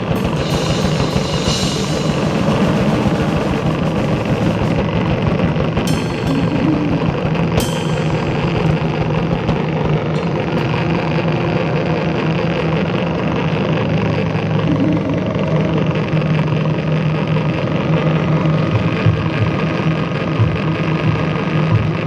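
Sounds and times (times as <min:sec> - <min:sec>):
distorted noise music: 0:00.0 - 0:22.0
low hum: 0:00.0 - 0:22.0.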